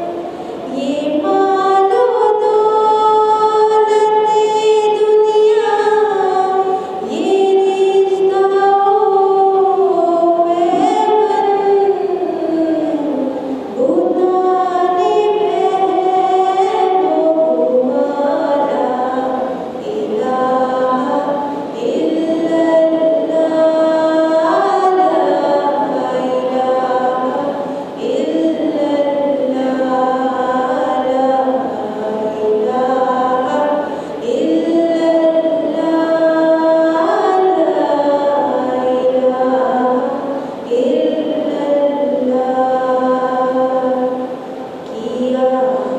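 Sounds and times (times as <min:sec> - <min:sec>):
woman singing unaccompanied: 0:00.0 - 0:45.9.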